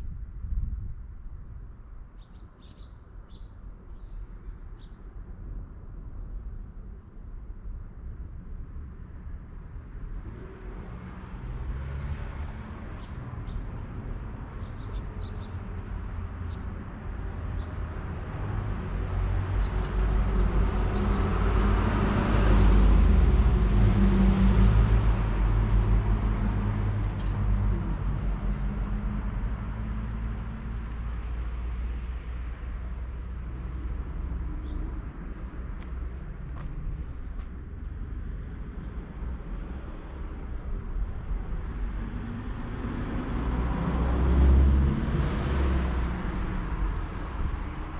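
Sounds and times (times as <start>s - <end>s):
low engine hum: 5.4s - 47.9s
vehicle passing on road: 8.0s - 47.9s.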